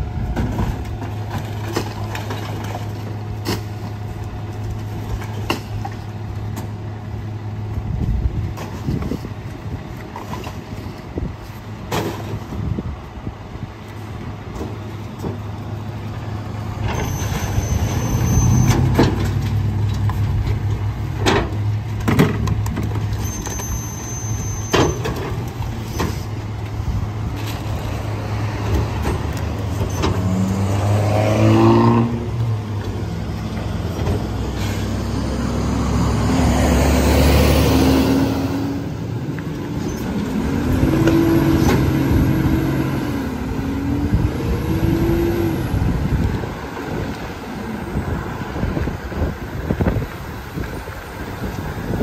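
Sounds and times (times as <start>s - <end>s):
garbage truck diesel engine: 0.0s - 52.0s.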